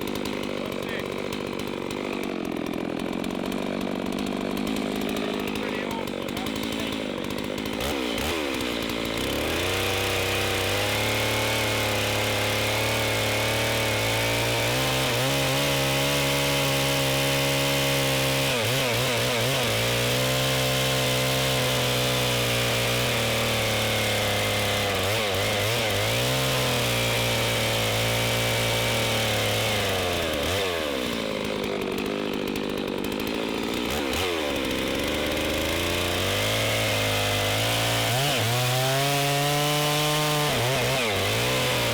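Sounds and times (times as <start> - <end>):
chainsaw running at high revs: 0.0 - 41.9.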